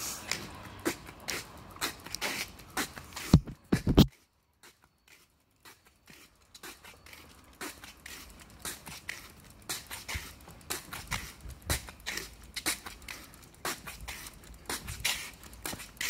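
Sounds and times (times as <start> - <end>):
footsteps on asphalt: 0.0 - 16.0.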